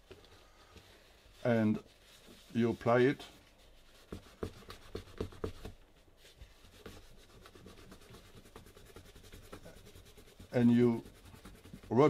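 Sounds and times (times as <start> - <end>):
paper towel rubbing on camera: 0.0 - 12.0.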